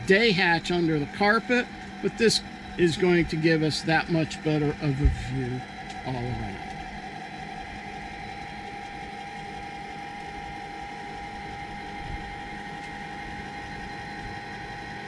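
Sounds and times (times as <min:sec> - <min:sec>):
hatch lift motor whine: 0:00.0 - 0:15.0.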